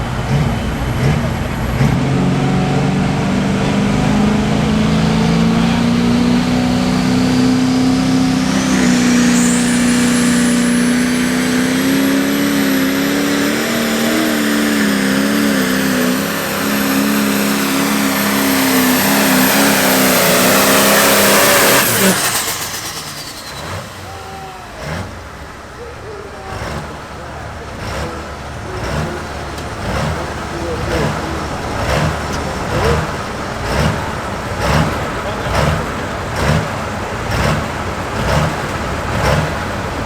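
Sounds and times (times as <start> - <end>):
diesel tractor engine under load: 0.0 - 40.0
high turbo whine: 0.0 - 40.0.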